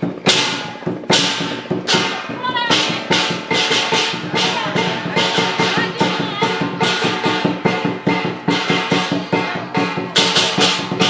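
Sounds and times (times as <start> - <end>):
cymbals crashing: 0.0 - 11.0
drum beat: 0.0 - 11.0.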